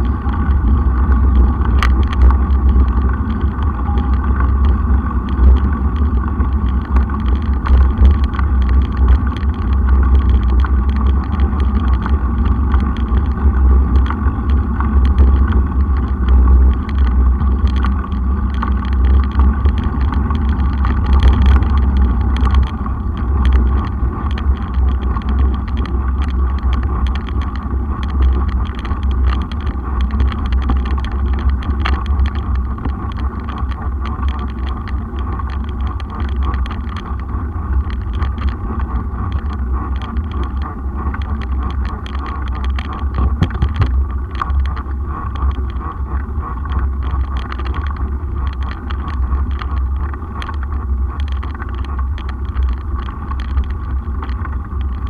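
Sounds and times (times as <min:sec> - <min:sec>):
bike rattling clicks: 0:00.0 - 0:55.0
bike tyre noise on brick: 0:00.0 - 0:55.0
wind on microphone: 0:00.0 - 0:55.0.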